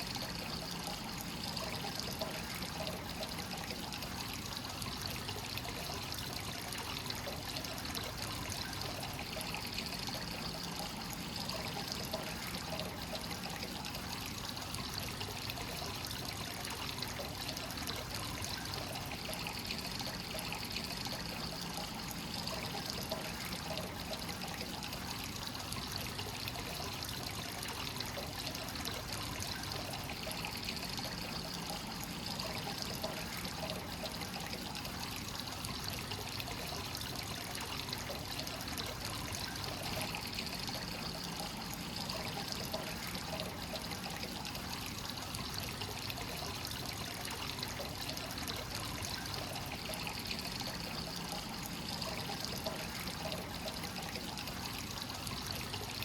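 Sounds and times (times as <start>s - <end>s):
water pouring into a bath: 0.0s - 56.0s.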